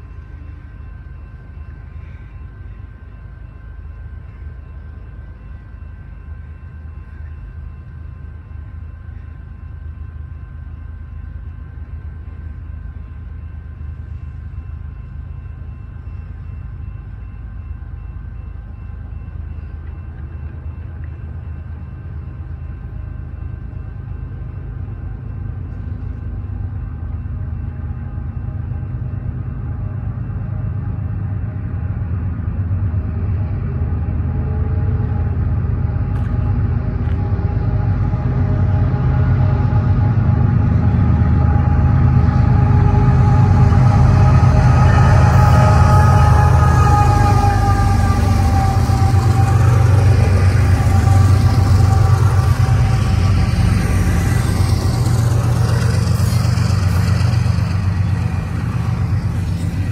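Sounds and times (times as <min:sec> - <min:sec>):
steady high ringing tone: 0:00.0 - 0:59.9
train rumbling: 0:00.0 - 0:59.9.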